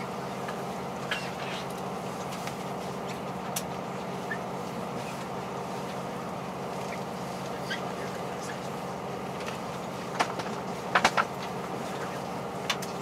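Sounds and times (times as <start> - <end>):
railcar diesel engine hum: 0.0 - 13.0.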